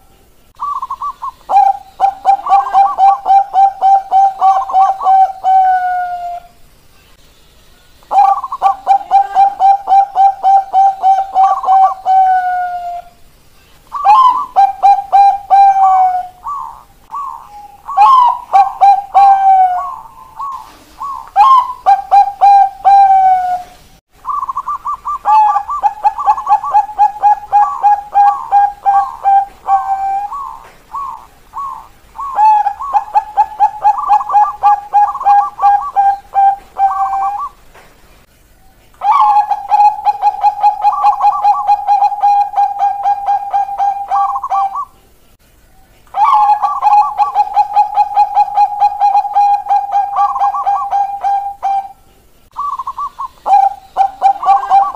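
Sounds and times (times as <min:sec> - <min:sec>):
doves cooing: 0:00.0 - 0:06.5, 0:08.1 - 0:13.2, 0:13.9 - 0:37.8, 0:38.7 - 0:45.0, 0:46.1 - 0:54.9.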